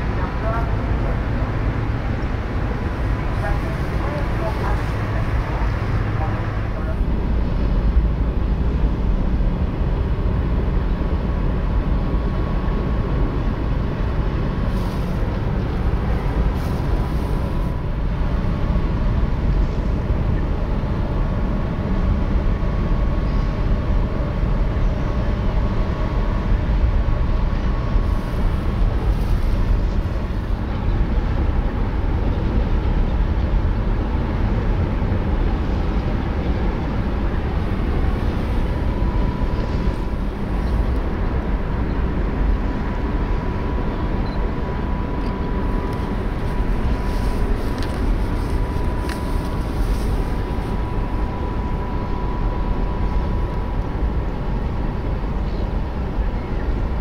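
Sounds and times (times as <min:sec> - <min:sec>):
ferry engines rumbling: 0:00.0 - 0:57.0.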